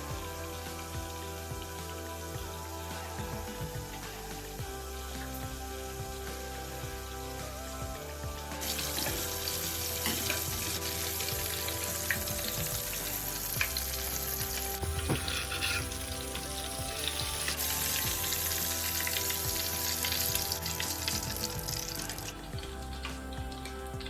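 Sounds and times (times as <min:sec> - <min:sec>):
fish deep-frying in oil: 0:00.0 - 0:24.0.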